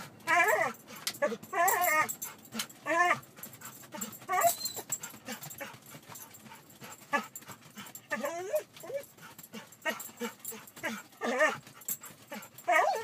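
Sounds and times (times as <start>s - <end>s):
dog moving with knocks and rustling: 0.0s - 13.0s
dog whining and yelping: 0.0s - 13.0s.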